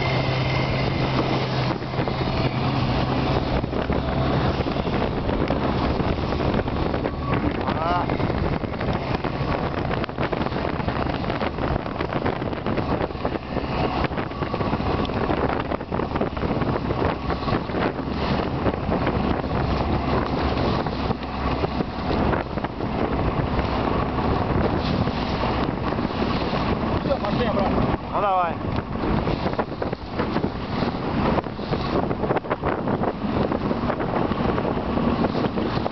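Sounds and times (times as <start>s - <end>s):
motor boat engine: 0.0s - 35.9s
water washing past hull: 0.0s - 35.9s
wind buffeting microphone: 0.0s - 35.9s.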